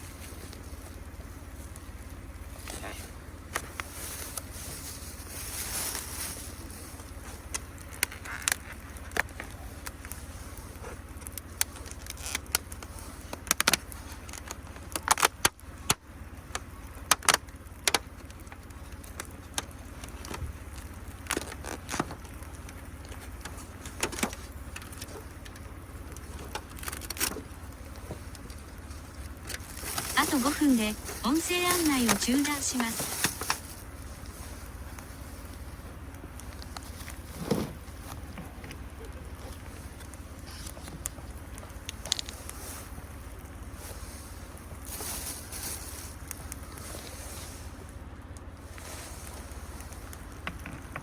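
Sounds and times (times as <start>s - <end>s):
campfire crackling: 0.0s - 51.0s.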